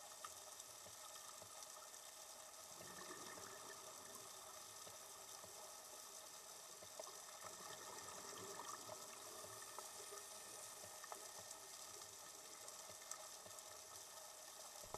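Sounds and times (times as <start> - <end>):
small clicks and crackles: 0.0 - 14.9
underwater hiss: 1.2 - 14.9.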